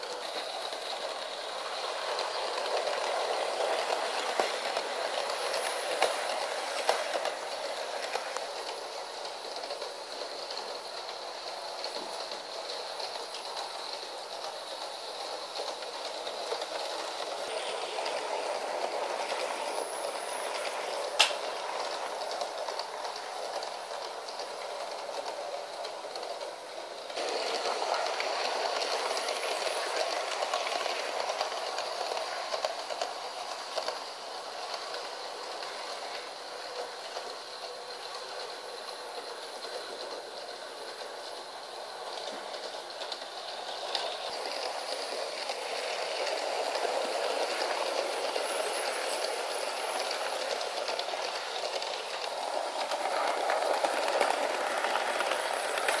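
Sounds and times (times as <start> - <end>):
model train wheels rattling: 0.0 - 56.0.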